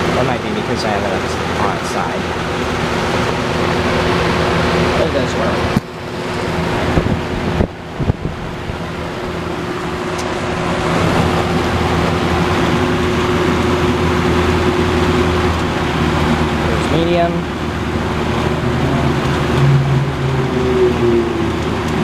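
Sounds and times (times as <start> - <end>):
box fan running: 0.0 - 22.0.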